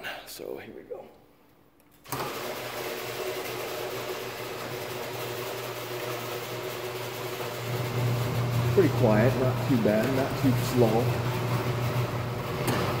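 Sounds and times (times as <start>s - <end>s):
garage door opener motor whir: 2.0s - 13.0s.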